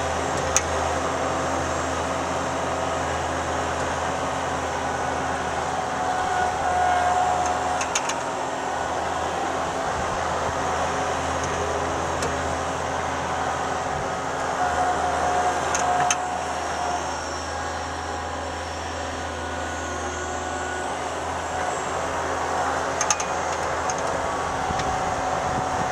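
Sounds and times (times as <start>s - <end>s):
skid steer engine running: 0.0s - 25.9s
thin mechanical whine: 0.0s - 25.9s.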